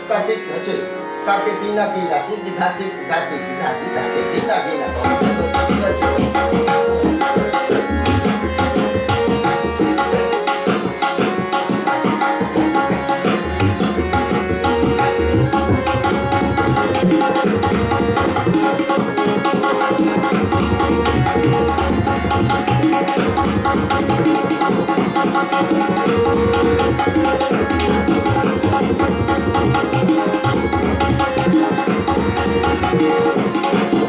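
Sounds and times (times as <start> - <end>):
harmonium melody: 0.0 - 34.0
tabla drumming: 3.7 - 34.0.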